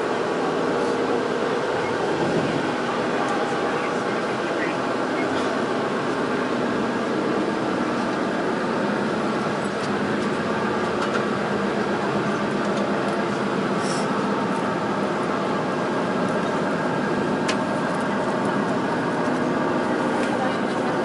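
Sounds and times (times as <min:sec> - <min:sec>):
train carriage rumble: 0:00.0 - 0:21.0.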